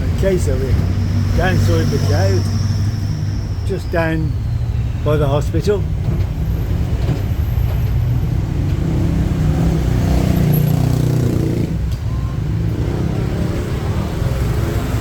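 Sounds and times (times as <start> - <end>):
engine and road noise: 0.0 - 15.0.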